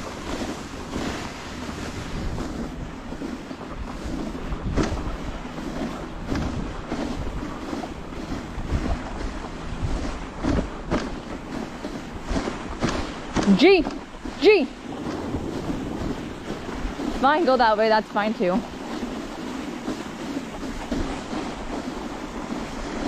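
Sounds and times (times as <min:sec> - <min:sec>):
sled knocking: 0:00.0 - 0:23.0
sled runners hissing on snow: 0:00.0 - 0:23.0
wind on microphone: 0:00.0 - 0:23.0.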